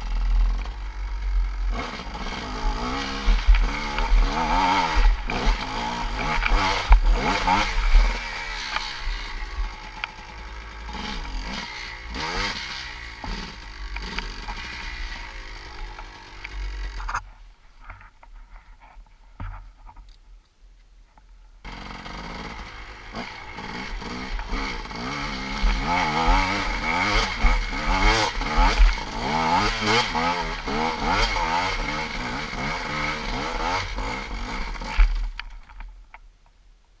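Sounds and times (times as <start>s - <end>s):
two-stroke motorcycle engine revving: 0.0s - 17.2s, 21.6s - 35.8s.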